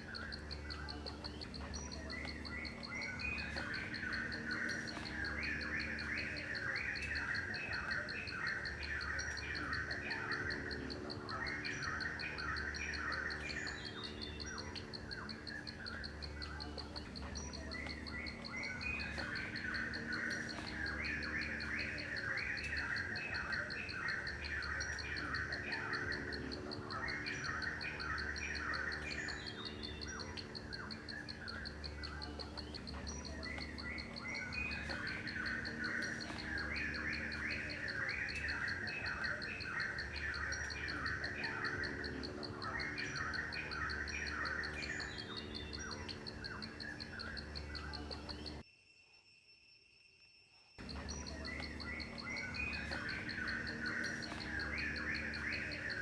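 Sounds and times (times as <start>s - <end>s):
birds chirping: 0.0s - 48.6s, 50.8s - 56.0s
pulsing insect trill: 0.0s - 56.0s.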